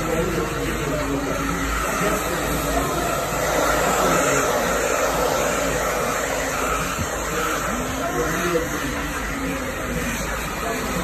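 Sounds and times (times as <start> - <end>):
steady rushing hum: 0.1 - 11.0
indistinct voices talking: 0.4 - 11.0.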